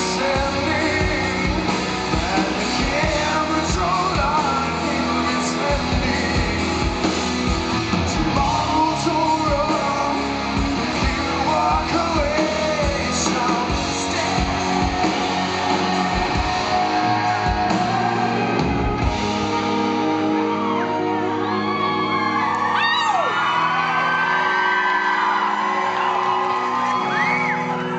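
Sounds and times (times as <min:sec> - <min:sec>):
live rock band playing: 0:00.0 - 0:27.9.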